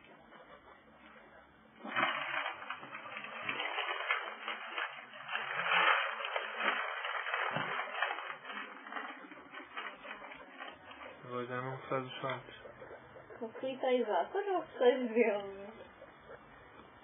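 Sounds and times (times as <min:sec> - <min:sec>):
guinea pigs rustling in bedding: 0:00.0 - 0:17.0.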